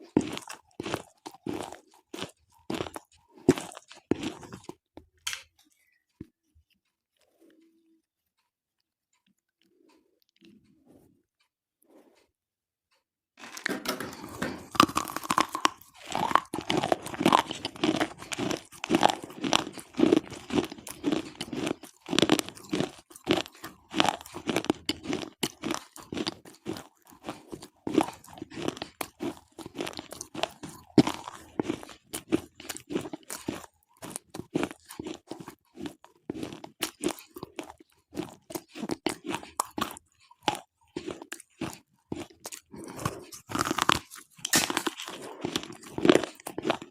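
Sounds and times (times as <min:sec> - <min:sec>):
chewing with sharp crunching: 0:00.0 - 0:10.8, 0:13.4 - 0:46.9.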